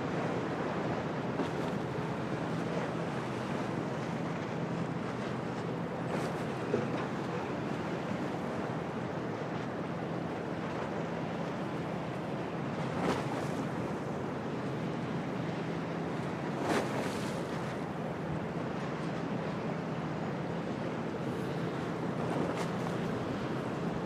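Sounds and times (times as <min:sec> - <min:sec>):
choppy waves: 0:00.0 - 0:24.0.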